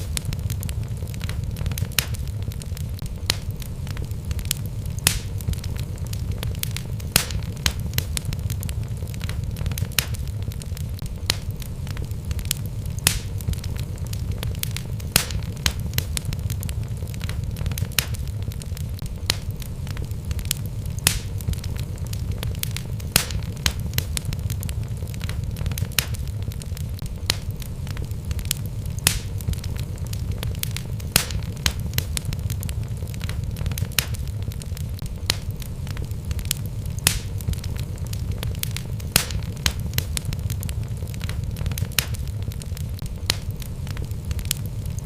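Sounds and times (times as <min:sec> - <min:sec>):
logs crackling and popping: 0:00.0 - 0:45.0
low rumble of flames: 0:00.0 - 0:45.0.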